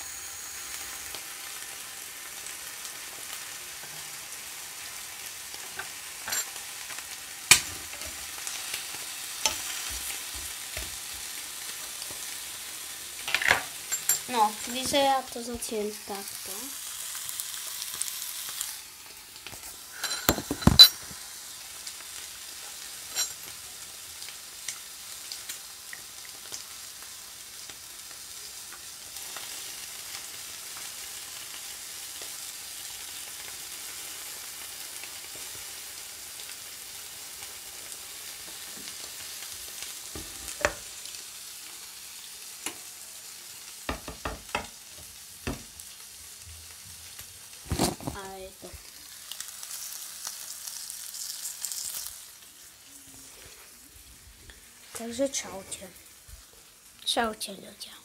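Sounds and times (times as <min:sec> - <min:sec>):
egg sizzling in a pan: 0:00.0 - 0:58.0.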